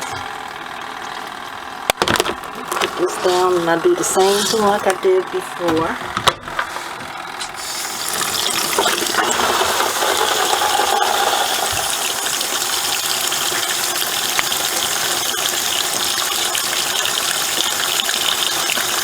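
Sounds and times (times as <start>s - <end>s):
spin dryer rushing and rattling: 0.0s - 19.0s.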